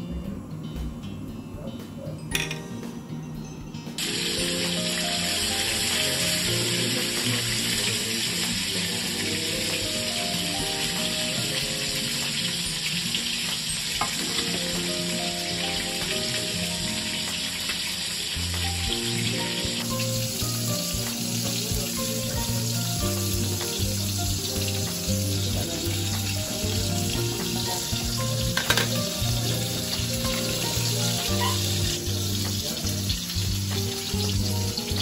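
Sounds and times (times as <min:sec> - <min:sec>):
background music with bass line: 0:00.0 - 0:13.1, 0:14.2 - 0:35.0.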